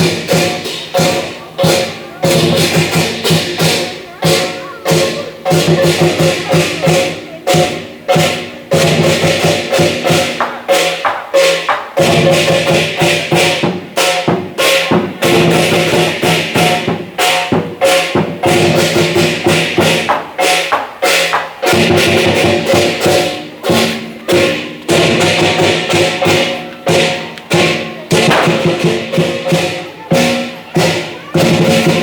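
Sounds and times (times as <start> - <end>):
big drum beating: 0.0 - 32.0
clashing cymbals: 0.0 - 32.0.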